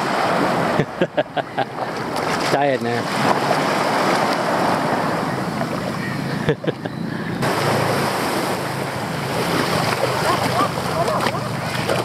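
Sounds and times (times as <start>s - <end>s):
small waves washing on sand: 0.0s - 6.4s, 7.4s - 12.0s.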